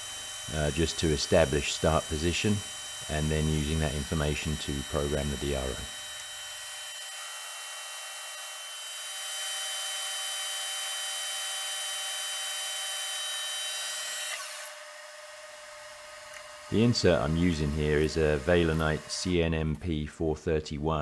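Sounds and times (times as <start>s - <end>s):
lathe spindle whining: 0.0s - 19.5s.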